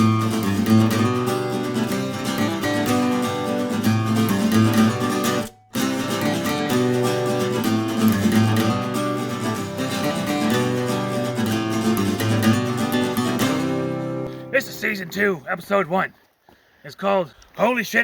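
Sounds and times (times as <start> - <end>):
strummed acoustic guitar music: 0.0 - 15.4.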